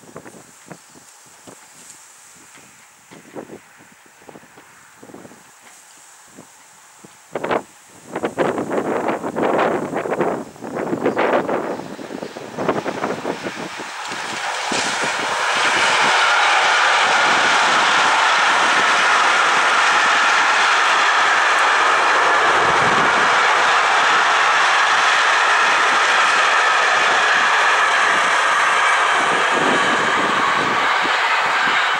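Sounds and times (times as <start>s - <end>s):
wind buffeting microphone: 0.0s - 5.5s, 6.3s - 31.9s
freight train wheels rolling on rails: 0.0s - 31.9s.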